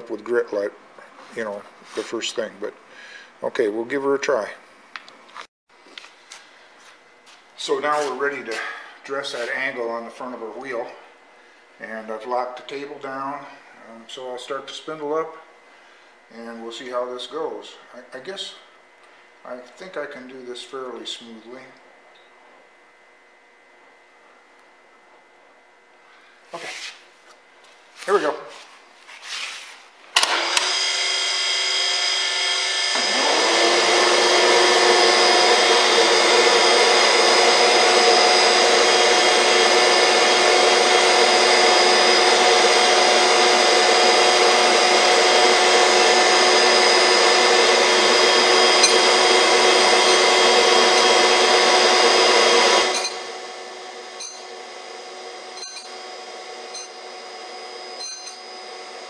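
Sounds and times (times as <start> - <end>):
grinder motor whine and hum: 3.5 - 28.6, 30.1 - 59.0.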